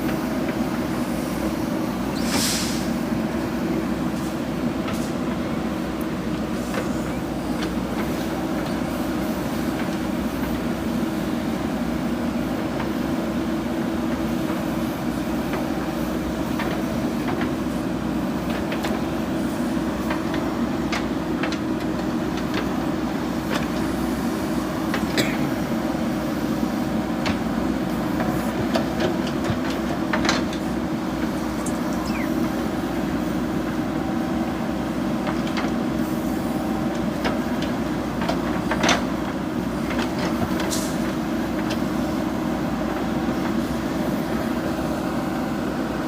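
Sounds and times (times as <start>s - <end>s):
diesel engine running: 2.8s - 46.0s.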